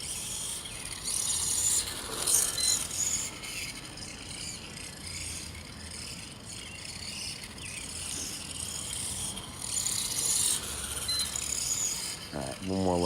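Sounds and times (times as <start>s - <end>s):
rc car motor whirring: 0.0s - 13.0s.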